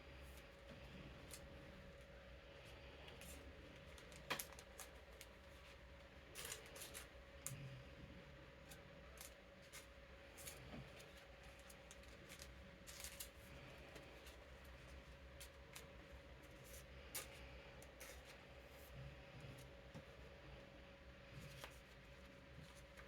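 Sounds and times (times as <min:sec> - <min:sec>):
electric fan humming: 0:00.0 - 0:23.0.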